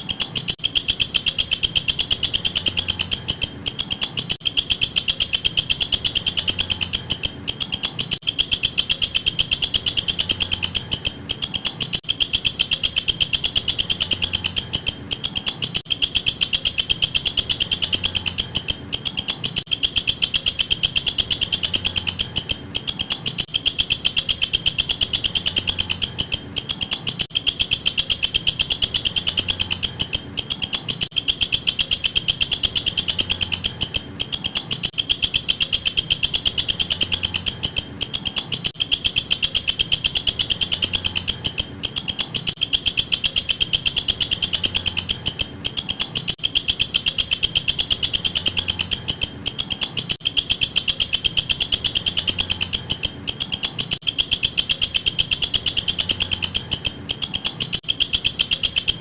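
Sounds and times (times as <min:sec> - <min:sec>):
insect high-pitched pulsing chirr: 0:00.0 - 0:59.0.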